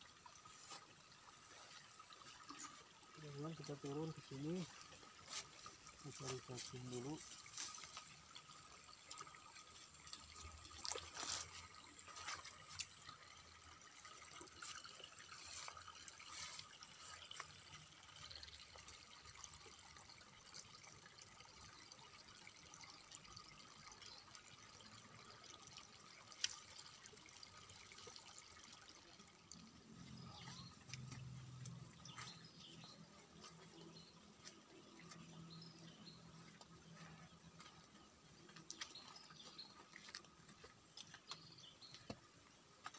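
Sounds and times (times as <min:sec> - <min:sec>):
faint water trickle: 0:00.0 - 0:42.9.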